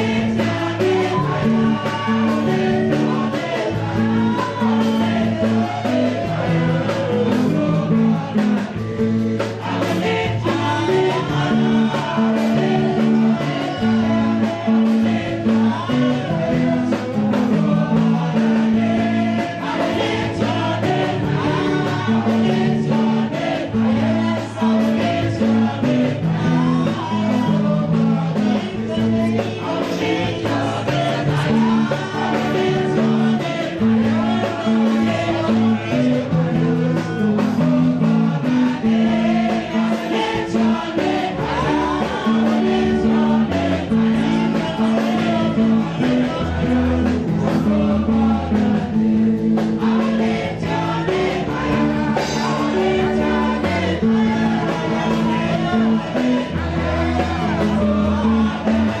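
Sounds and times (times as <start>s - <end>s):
band playing: 0.0s - 59.0s
bass line: 0.0s - 59.0s
voices singing gospel: 0.0s - 59.0s.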